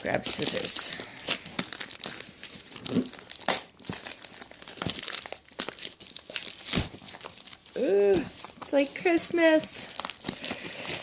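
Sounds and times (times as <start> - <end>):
package crinkling and tearing: 0.0 - 11.0.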